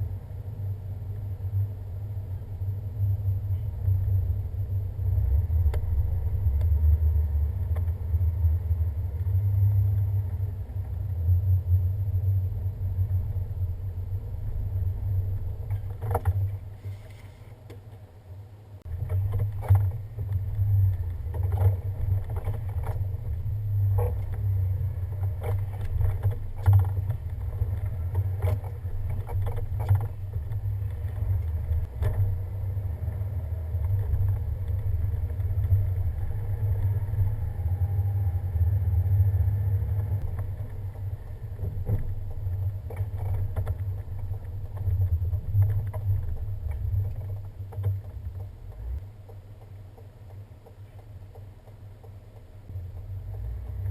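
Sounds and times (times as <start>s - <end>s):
vehicle rumble on snowy road: 0.0s - 53.9s.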